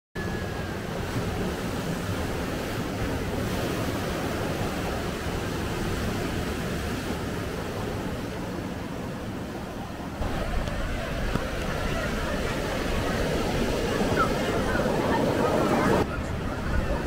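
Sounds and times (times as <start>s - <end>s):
wind on microphone: 0.5s - 17.0s
surf washing onto beach: 0.6s - 17.0s.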